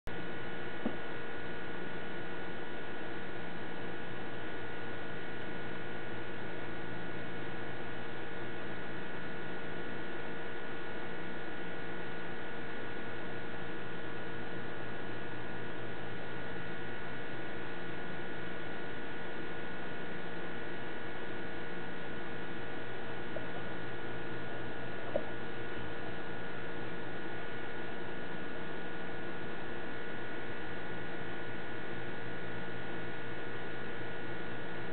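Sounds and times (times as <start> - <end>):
constant hiss: 0.1 - 34.9
electrical hum: 0.1 - 34.9.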